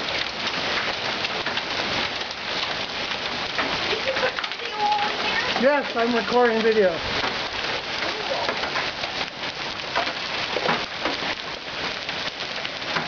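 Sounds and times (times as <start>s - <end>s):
hail clattering: 0.0s - 13.0s.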